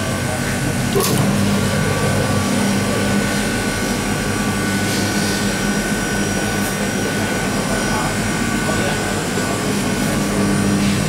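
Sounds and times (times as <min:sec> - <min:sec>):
mixer motor hum: 0:00.0 - 0:11.0
gas burner rushing: 0:00.6 - 0:11.0.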